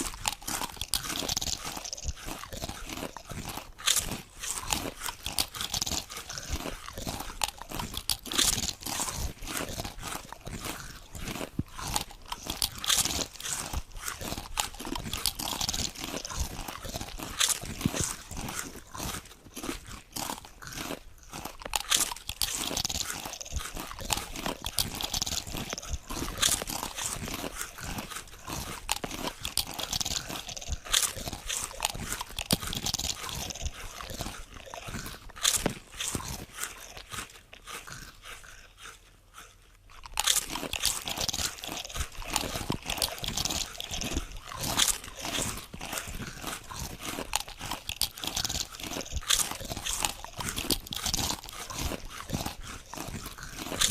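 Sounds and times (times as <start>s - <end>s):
potato chips crunching: 0.0s - 53.9s.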